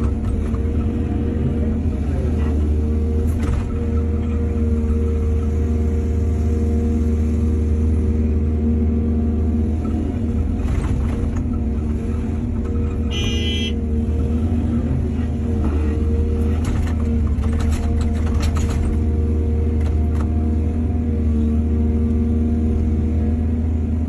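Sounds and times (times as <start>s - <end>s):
diesel excavator engine: 0.0s - 24.0s.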